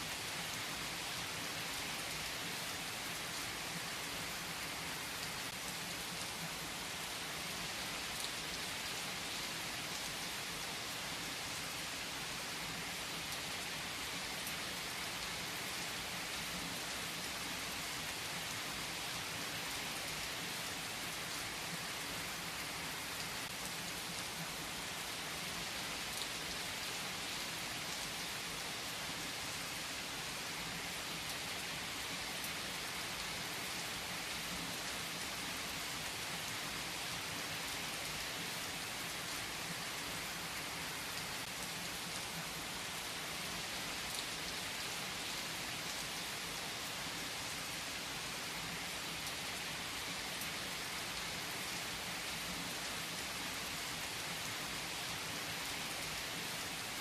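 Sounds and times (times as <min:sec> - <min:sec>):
rain pattering on surfaces: 0:00.1 - 0:47.7.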